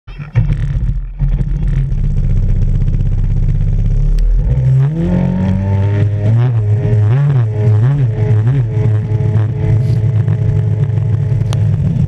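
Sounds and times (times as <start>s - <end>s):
jet ski engine running: 0.2s - 12.0s.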